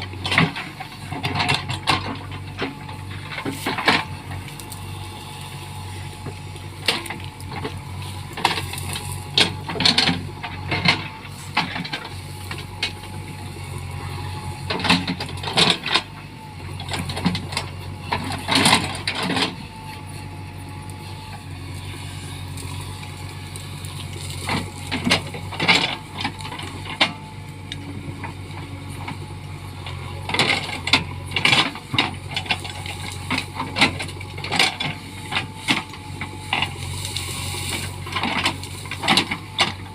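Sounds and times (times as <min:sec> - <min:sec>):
backhoe diesel engine running: 0:00.0 - 0:39.9
branches and wood cracking: 0:00.2 - 0:39.9.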